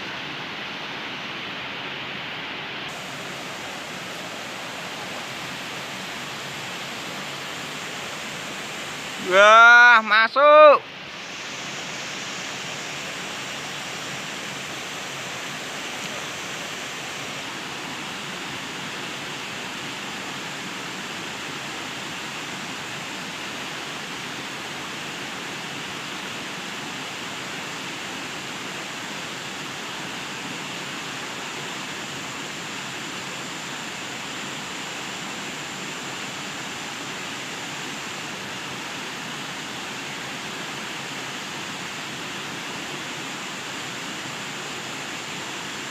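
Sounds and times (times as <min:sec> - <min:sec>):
water flowing in a stream: 0:00.0 - 0:45.9.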